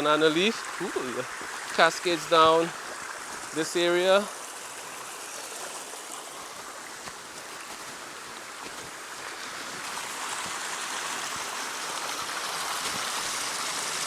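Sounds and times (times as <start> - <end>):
stream water rushing over rocks: 0.0 - 14.0.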